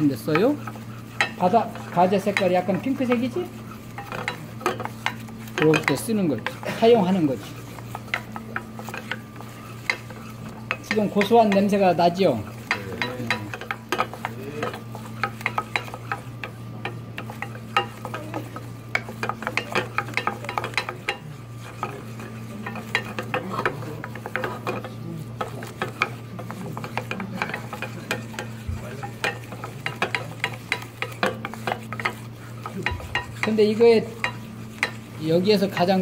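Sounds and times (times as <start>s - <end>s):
steady low hum: 0.0s - 36.0s
wooden spatula scraping a saucepan: 0.0s - 36.0s.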